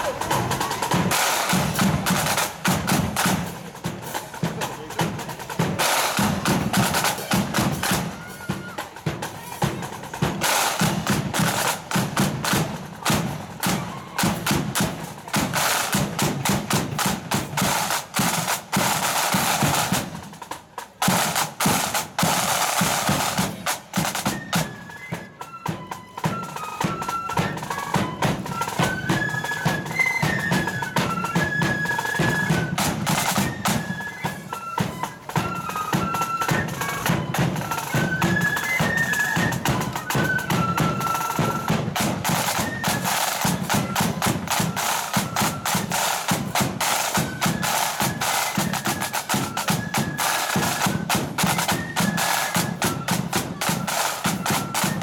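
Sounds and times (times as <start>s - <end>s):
flutes playing high melody: 0.0s - 4.0s, 4.8s - 20.4s, 21.1s - 55.0s
snare drum rolls: 0.0s - 55.0s.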